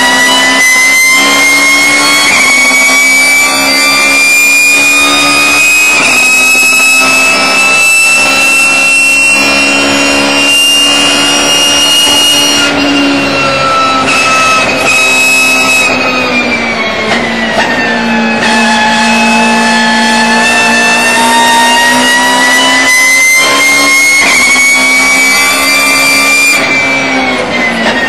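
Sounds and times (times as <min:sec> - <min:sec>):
high whine: 0:00.0 - 0:28.0
race car engine running hard: 0:00.0 - 0:28.0.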